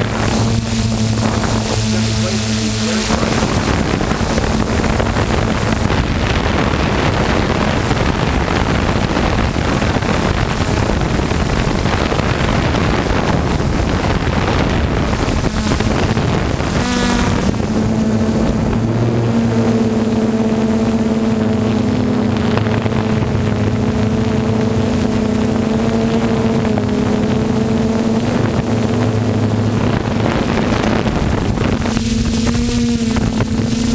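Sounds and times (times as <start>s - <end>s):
drone motors humming: 0.0s - 33.9s
wind rush on microphone: 0.0s - 33.9s.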